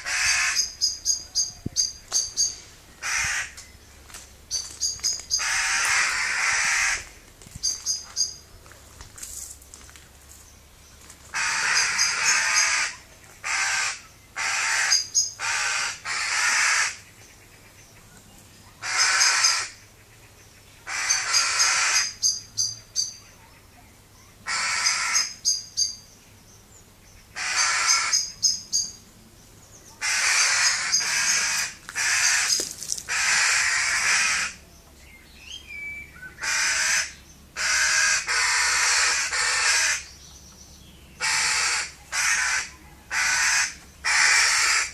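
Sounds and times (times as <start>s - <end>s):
birds giving harsh raspy calls: 0.0s - 8.5s, 10.9s - 26.2s, 27.0s - 29.1s, 29.7s - 44.9s.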